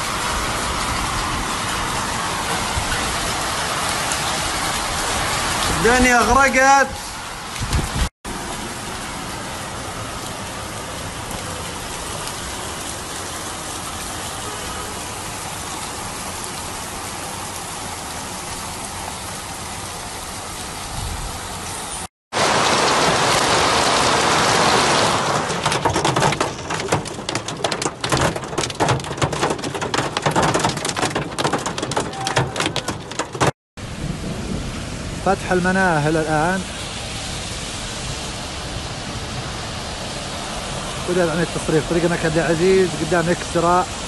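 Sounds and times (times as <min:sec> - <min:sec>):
rain and hail pelting car roof: 0:00.0 - 0:21.5, 0:22.3 - 0:37.0
floodwater washing over street: 0:00.0 - 0:44.0
heavy rain falling: 0:00.0 - 0:44.0.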